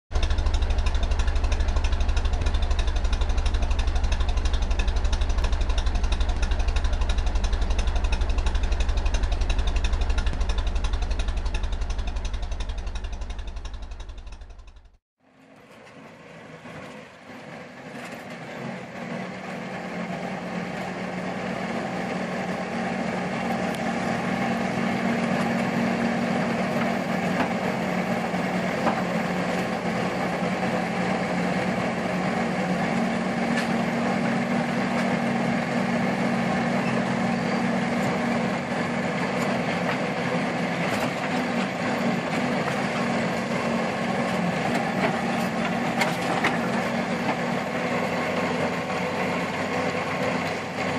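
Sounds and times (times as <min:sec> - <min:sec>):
old car engine running: 0:00.1 - 0:50.9.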